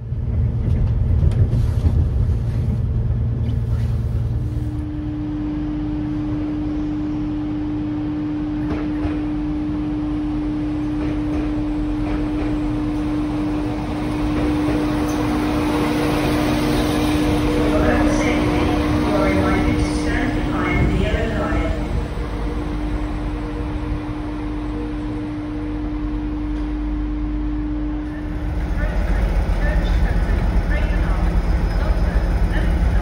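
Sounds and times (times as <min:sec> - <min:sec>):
train arriving at platform: 0:00.0 - 0:33.0
train rumbling on board: 0:00.0 - 0:33.0.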